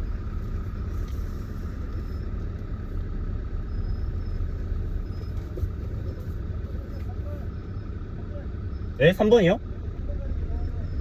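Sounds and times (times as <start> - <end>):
car engine rumbling from inside: 0.0 - 11.0.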